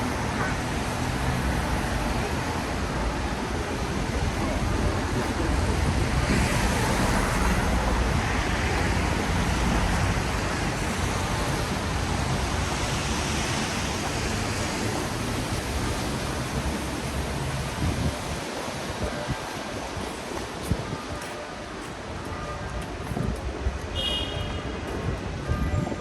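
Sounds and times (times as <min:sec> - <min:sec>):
traffic on wet street: 0:00.0 - 0:26.0
tyres passing on wet road: 0:00.0 - 0:26.0.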